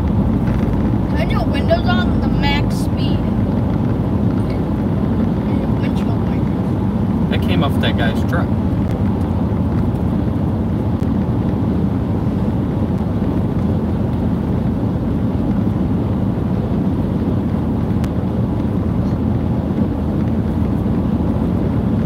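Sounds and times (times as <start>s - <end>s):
road and engine rumble in a van: 0.0s - 22.0s.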